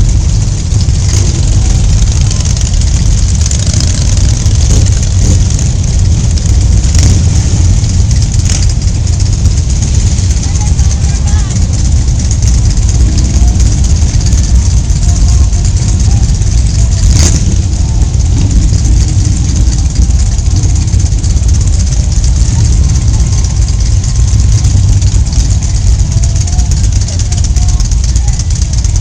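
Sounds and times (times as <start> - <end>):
low rumble and hiss: 0.0 - 29.0
motorcycle engine running: 0.0 - 29.0.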